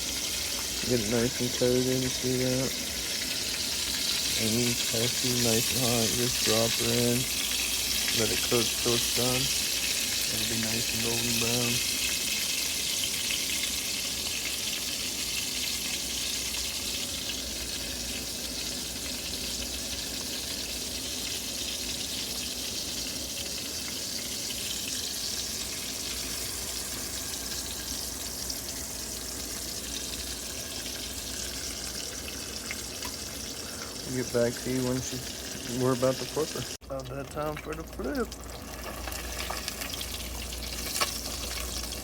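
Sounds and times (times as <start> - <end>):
fish frying in a pan: 0.0 - 42.0.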